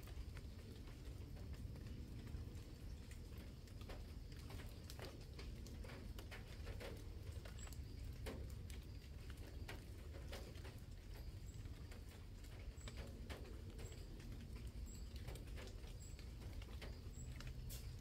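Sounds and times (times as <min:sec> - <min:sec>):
low steady rumble: 0:00.0 - 0:18.0
water drops pattering on leaves: 0:00.0 - 0:18.0.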